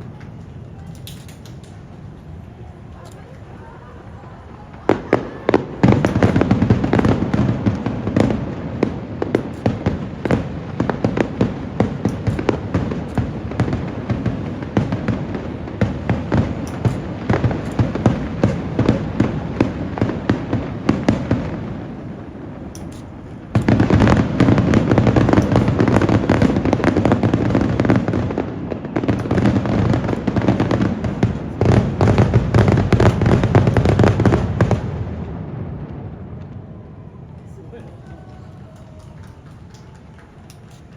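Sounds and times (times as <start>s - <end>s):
fireworks bursting and crackling: 0.0s - 36.7s.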